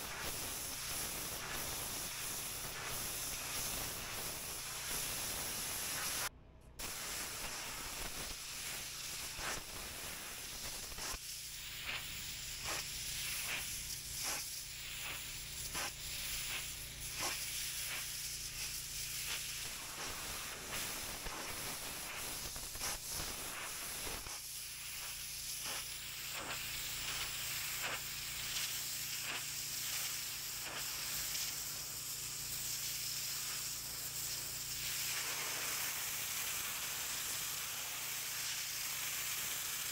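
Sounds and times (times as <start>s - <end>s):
pressure washer jet spraying: 0.0s - 39.9s.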